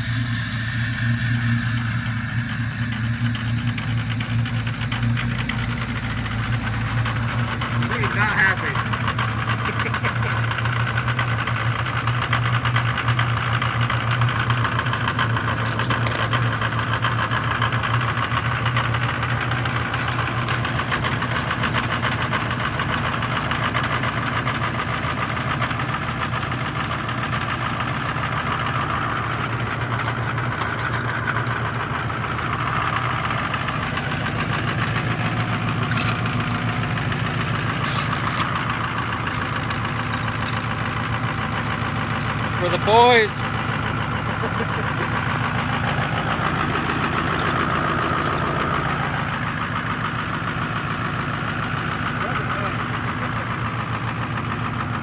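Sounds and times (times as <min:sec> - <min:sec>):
diesel truck engine idling rough: 0:00.0 - 0:55.0.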